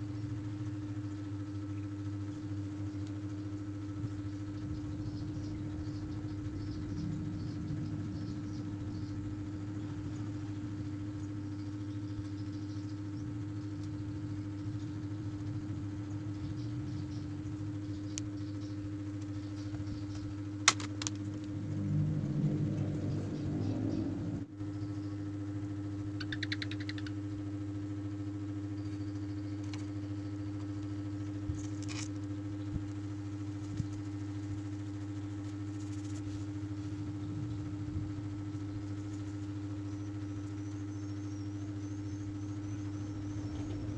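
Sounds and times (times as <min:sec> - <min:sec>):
mechanical hum: 0:00.0 - 0:43.9.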